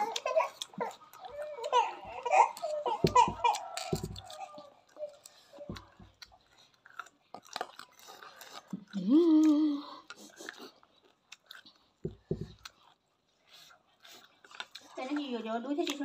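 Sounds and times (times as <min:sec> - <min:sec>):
wet chewing and slurping: 0:00.0 - 0:16.0.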